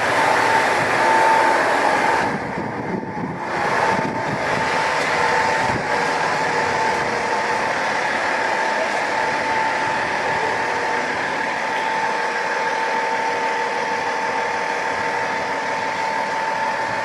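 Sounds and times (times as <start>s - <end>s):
diesel railcar idling: 0.0s - 17.0s.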